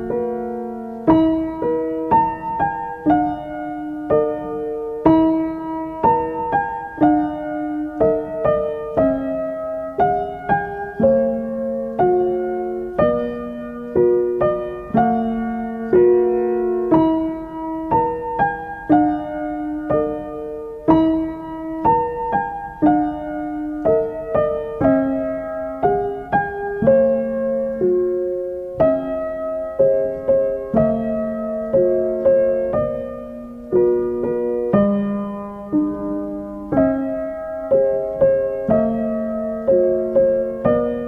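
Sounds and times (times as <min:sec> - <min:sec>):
gentle solo piano: 0:00.0 - 0:41.0.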